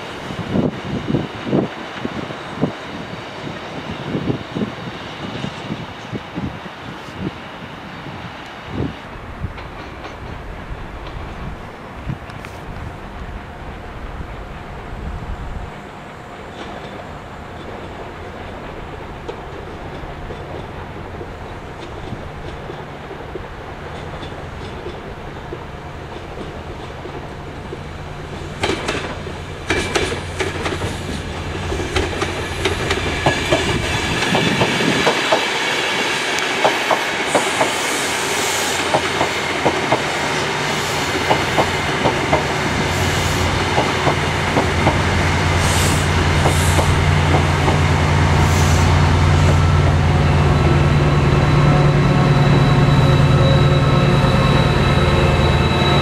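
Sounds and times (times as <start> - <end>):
passenger train passing: 0.0 - 56.0.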